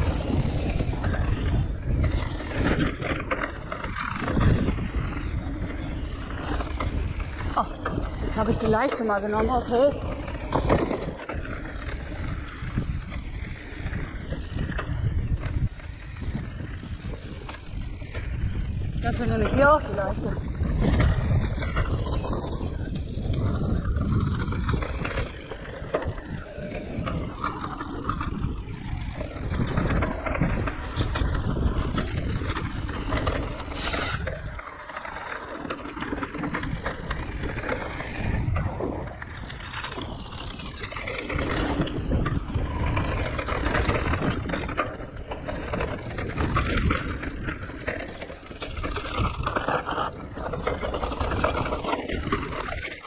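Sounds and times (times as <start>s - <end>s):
bike rattles and knocks: 0.0s - 53.0s
tyres rumbling on trail: 0.0s - 53.0s.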